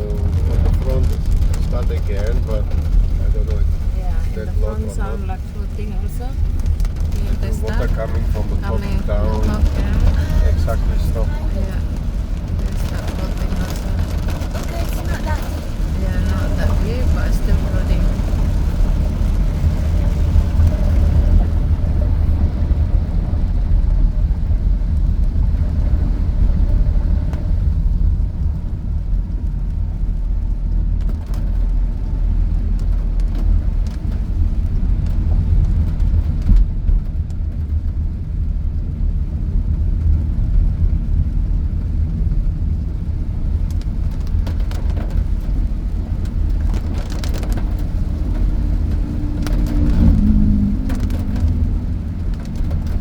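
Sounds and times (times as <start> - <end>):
car cabin low rumble: 0.0 - 53.0.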